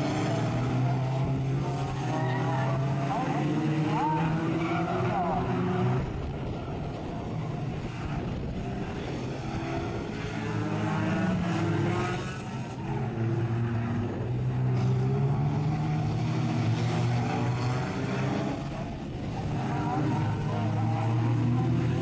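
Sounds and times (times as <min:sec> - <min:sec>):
racing car engines revving: 0:00.0 - 0:22.0.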